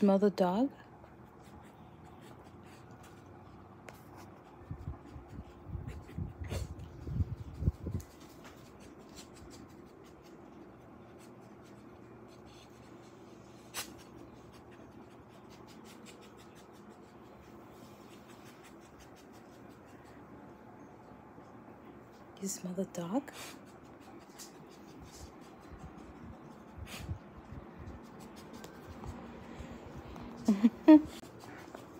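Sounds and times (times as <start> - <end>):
dog sniffing: 1.1 - 20.4, 23.0 - 31.9.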